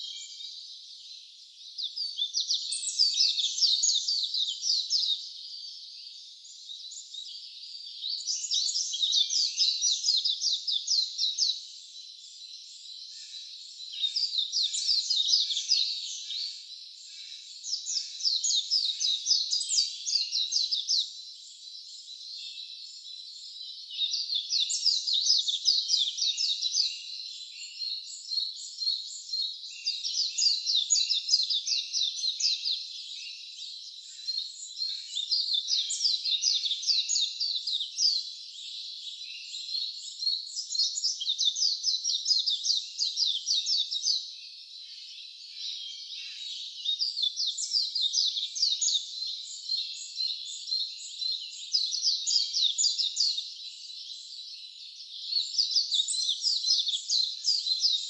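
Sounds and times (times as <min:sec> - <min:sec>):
chorus of high-pitched calls: 0:01.7 - 0:58.0.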